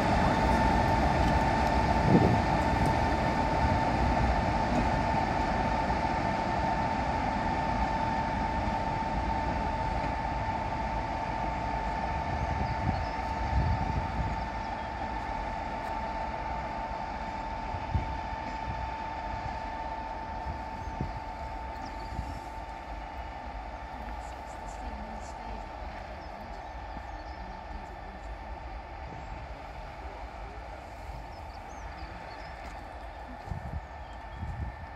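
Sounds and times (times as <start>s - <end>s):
diesel locomotive engine rumble: 0.0s - 34.9s
steady high whine: 0.0s - 34.9s.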